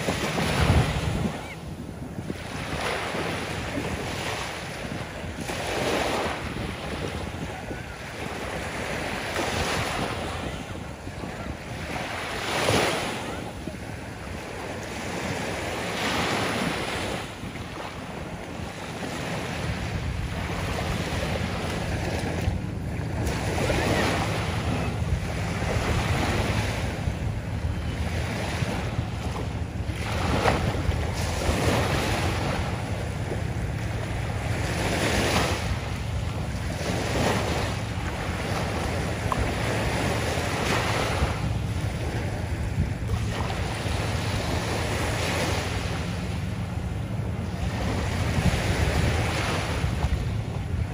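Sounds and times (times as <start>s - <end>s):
small waves washing on sand: 0.0s - 50.9s
wind rumble on microphone: 0.0s - 50.9s.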